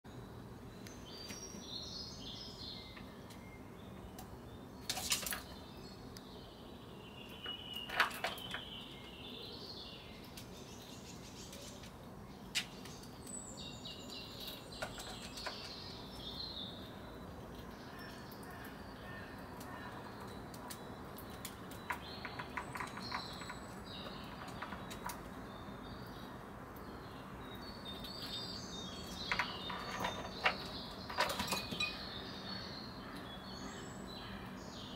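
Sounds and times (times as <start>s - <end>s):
faint outdoor hum: 0.1s - 34.9s
songbirds chirping: 0.1s - 34.9s.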